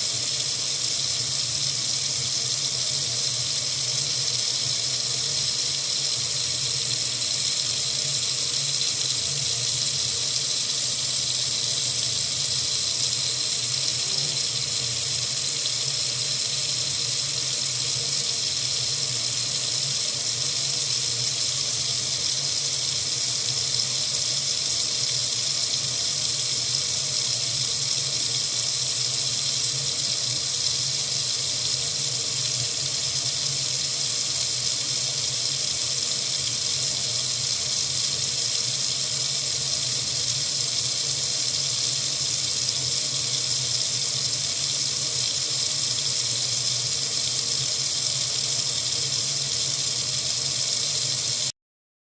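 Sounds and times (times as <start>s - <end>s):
water running from faucet: 0.0s - 51.5s.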